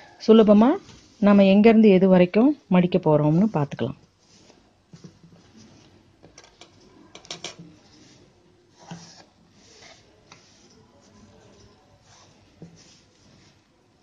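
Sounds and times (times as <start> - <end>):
fabric rustling: 0.5 - 1.6, 3.2 - 6.2, 6.8 - 14.0.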